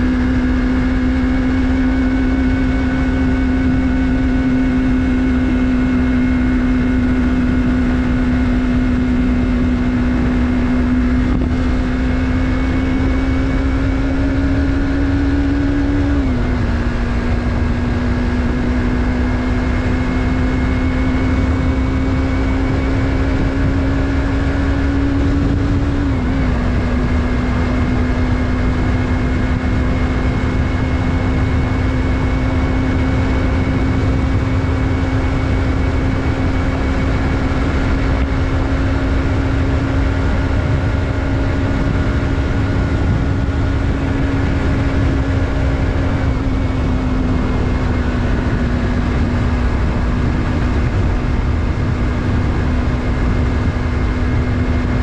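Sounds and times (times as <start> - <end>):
motorcycle engine shifting gears: 0.0 - 55.0
wind and road noise: 0.0 - 55.0.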